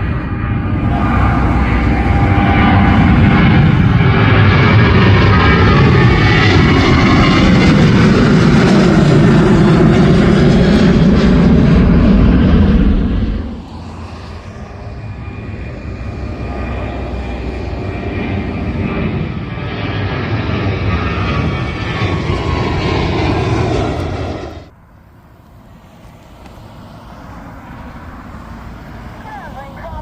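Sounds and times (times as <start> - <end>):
airliner engines roaring: 0.0 - 30.0.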